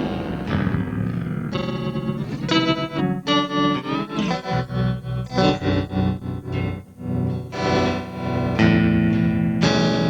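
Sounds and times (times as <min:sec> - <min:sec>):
electric guitar chords with modulation: 0:00.0 - 0:10.0.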